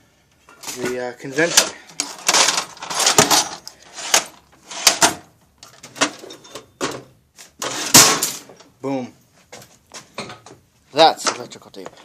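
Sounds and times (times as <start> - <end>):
objects knocking and rattling: 0.5 - 8.7, 9.6 - 12.0.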